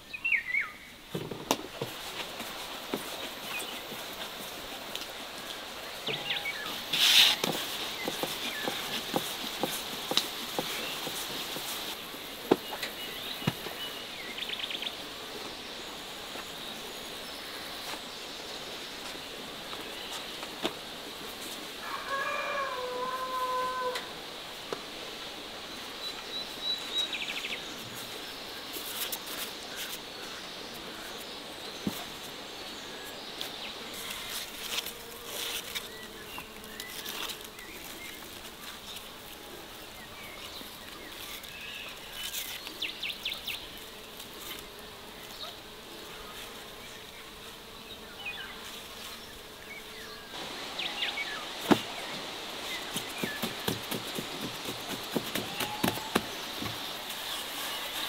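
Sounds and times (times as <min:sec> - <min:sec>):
flying insect buzzing: 0:01.1 - 0:26.6, 0:27.6 - 0:58.0.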